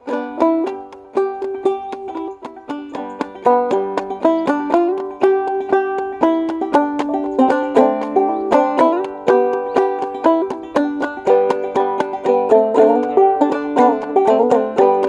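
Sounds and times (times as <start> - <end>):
banjo plucked notes: 0.0 - 15.0.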